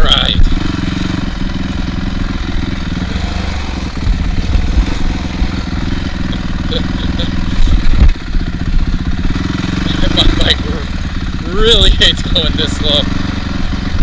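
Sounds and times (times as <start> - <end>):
dirt bike engine at low revs: 0.0 - 14.0.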